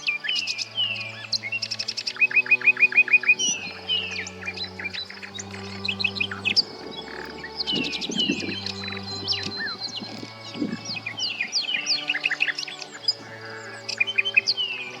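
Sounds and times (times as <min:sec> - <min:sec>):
bird singing whistles and trills: 0:00.0 - 0:15.0
soft background music: 0:00.0 - 0:15.0.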